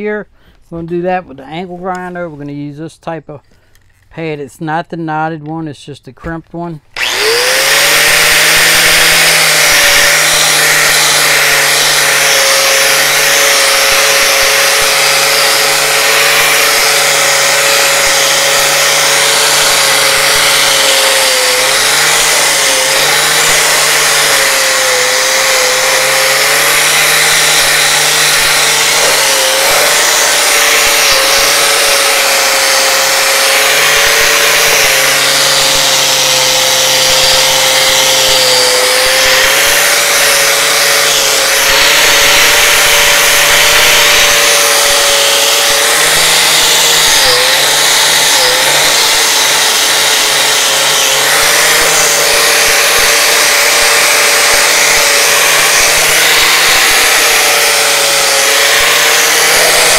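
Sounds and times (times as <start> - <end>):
angle grinder motor whine: 6.9 - 59.9.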